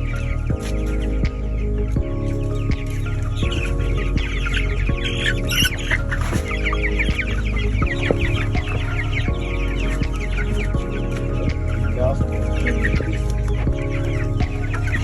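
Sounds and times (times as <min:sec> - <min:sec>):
chicks cheeping: 0:00.0 - 0:15.0.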